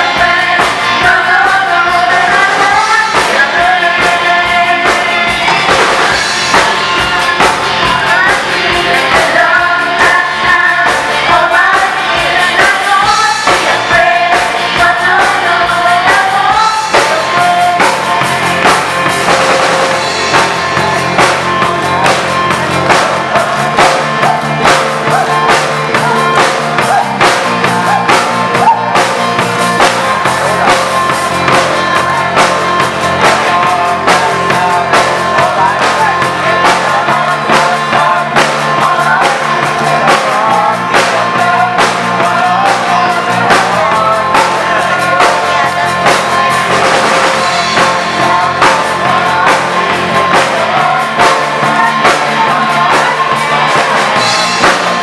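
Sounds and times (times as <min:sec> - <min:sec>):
drum beat: 0:00.0 - 0:55.0
live band playing: 0:00.0 - 0:55.0
person singing: 0:00.0 - 0:55.0.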